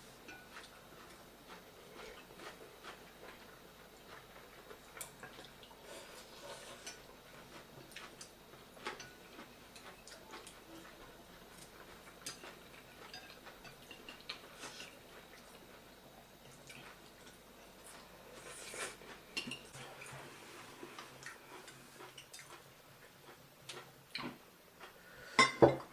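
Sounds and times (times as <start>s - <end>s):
faint chewing: 0.2s - 25.2s.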